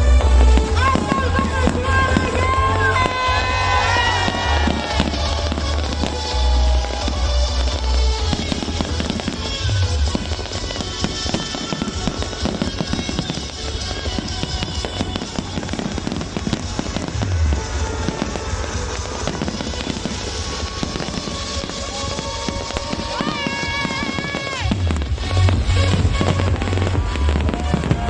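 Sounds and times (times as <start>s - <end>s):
fireworks crackling: 0.0s - 28.0s
music playing: 0.0s - 28.0s
deep firework booms: 0.2s - 28.0s.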